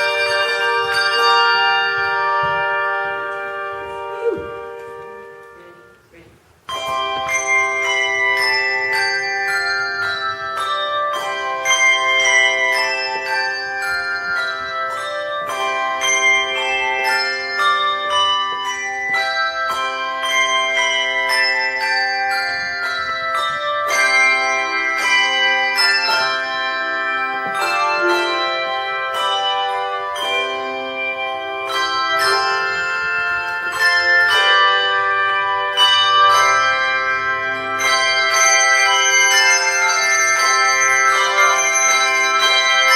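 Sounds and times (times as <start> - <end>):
handbell choir playing: 0.0 - 6.0, 6.7 - 42.9.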